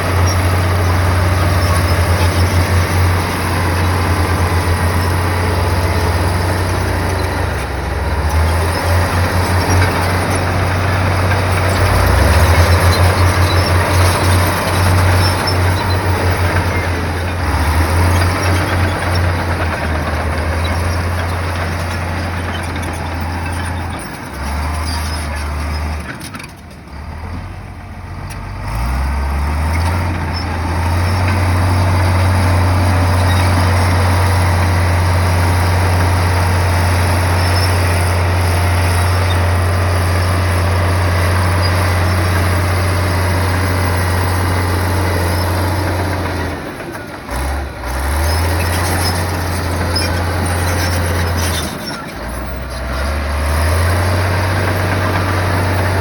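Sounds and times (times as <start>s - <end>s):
bulldozer diesel engine revving: 0.0s - 56.0s.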